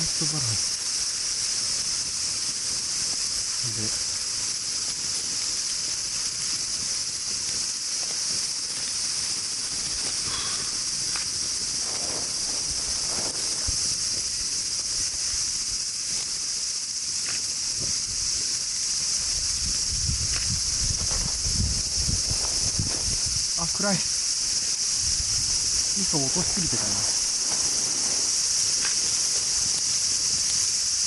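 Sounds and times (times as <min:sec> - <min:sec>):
insects chorus: 0:00.0 - 0:31.0.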